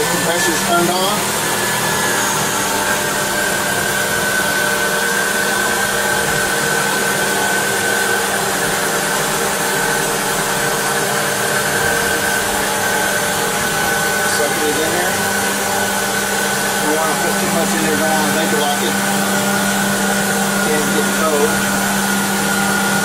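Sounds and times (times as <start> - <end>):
loud fan-like whooshing: 0.0 - 23.0
thin steady whine: 0.0 - 23.0.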